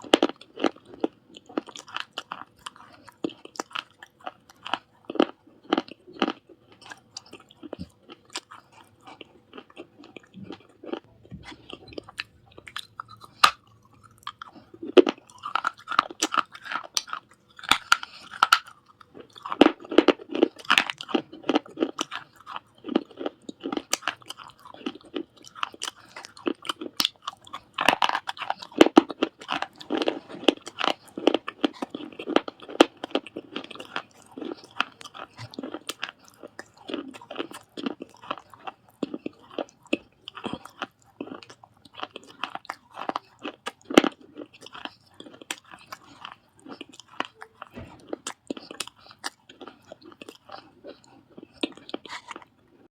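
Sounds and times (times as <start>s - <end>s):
chewing crunchy clay: 0.0s - 52.9s.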